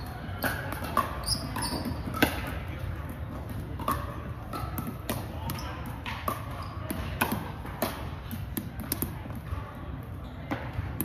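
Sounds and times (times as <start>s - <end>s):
paddles hitting plastic ball: 0.2s - 9.6s.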